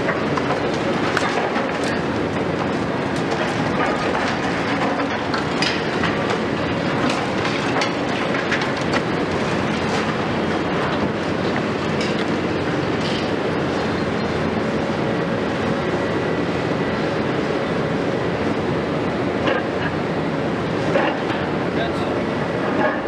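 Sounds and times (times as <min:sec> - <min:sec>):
excavator rumbling: 0:00.0 - 0:23.0.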